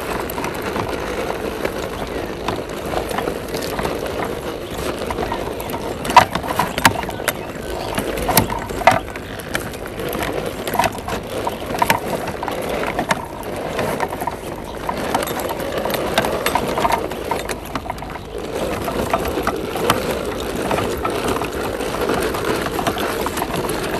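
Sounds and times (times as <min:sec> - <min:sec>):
tyres knocking on dirt clods: 0:00.0 - 0:23.9.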